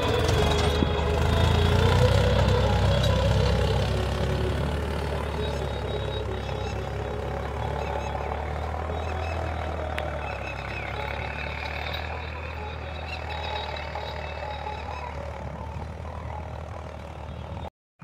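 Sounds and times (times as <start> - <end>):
tractor engine running: 0.0 - 17.7.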